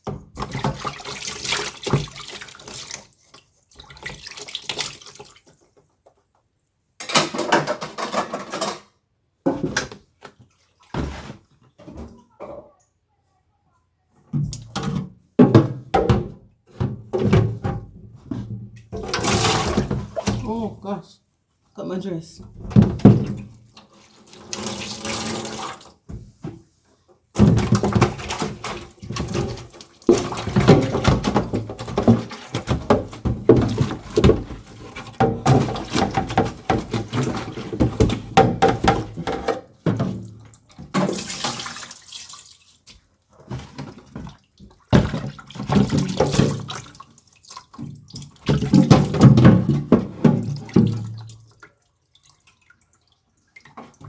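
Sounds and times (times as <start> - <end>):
water sloshing and splashing: 0.0 - 6.3, 9.6 - 12.2, 16.8 - 21.0, 22.4 - 26.4, 27.2 - 54.0.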